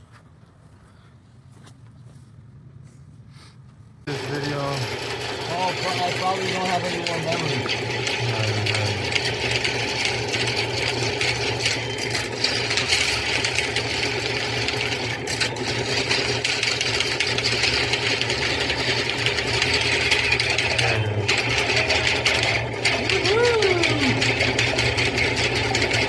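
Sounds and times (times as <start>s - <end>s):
drain-cleaning machine motor humming: 4.1s - 26.0s.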